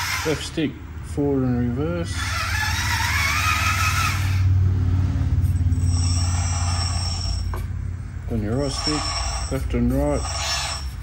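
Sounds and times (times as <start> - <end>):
electric motor and gearbox whining: 0.0 - 11.0.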